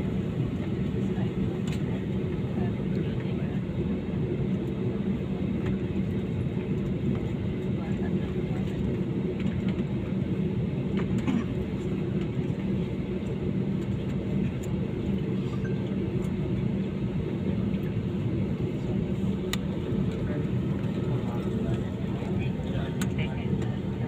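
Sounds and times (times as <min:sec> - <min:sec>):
airliner cabin drone: 0:00.0 - 0:24.0.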